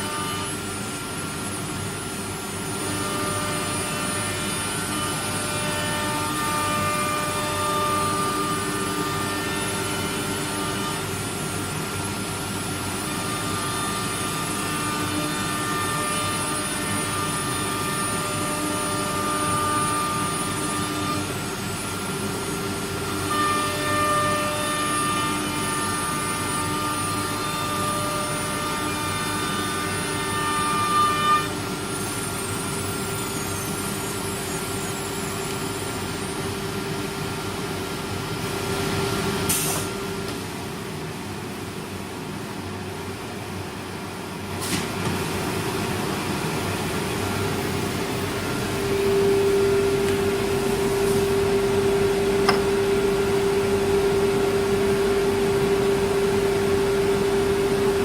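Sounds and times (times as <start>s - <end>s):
woodworking router whine: 0.0s - 38.2s, 46.7s - 58.0s.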